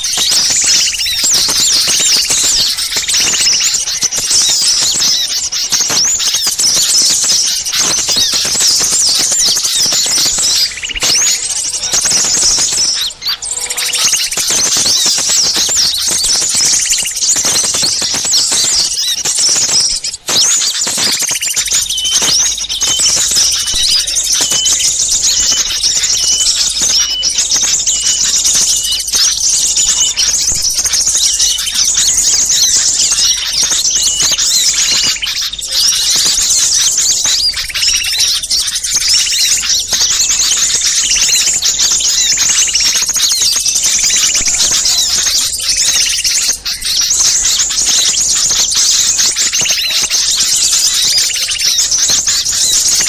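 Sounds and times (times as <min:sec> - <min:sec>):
small songbirds chirping: 0:00.0 - 0:53.0.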